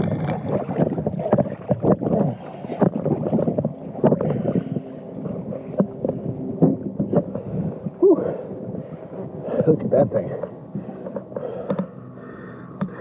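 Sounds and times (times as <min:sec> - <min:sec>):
water sloshing and gurgling: 0:00.0 - 0:13.0.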